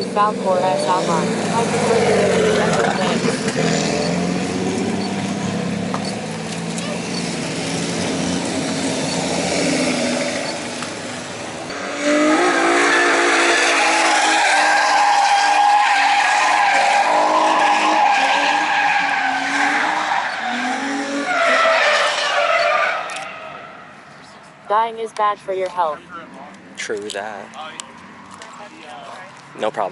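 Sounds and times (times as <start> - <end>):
car engine revving: 0.0 - 24.3
tire squealing: 0.0 - 24.7.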